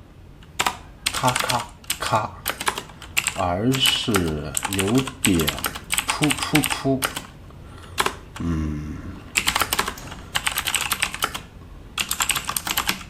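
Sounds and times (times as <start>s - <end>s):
mechanical keyboard typing: 0.5s - 7.3s, 8.0s - 8.3s, 9.4s - 13.0s.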